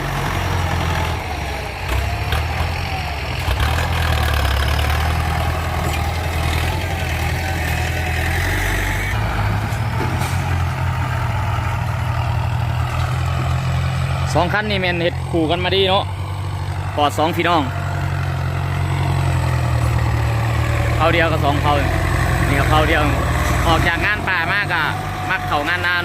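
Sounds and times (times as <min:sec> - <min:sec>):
tractor diesel engine droning: 0:00.0 - 0:26.0.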